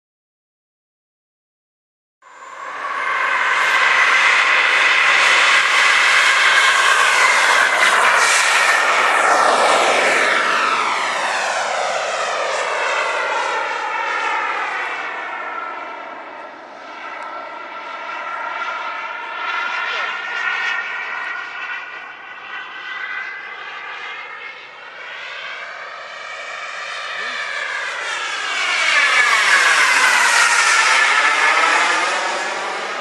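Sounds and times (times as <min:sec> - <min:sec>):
model jet turbine rush and whine: 0:02.3 - 0:33.0.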